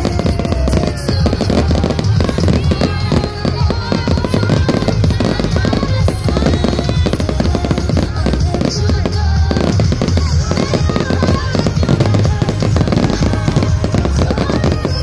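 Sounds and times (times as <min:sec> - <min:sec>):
fireworks bangs and crackling: 0:00.0 - 0:15.0
music playing: 0:00.0 - 0:15.0.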